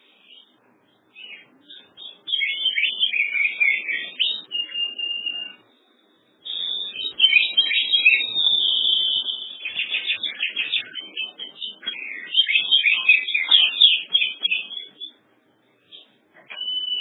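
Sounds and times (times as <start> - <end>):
songbird chirps and whistles: 0.0 - 5.8, 6.4 - 17.0.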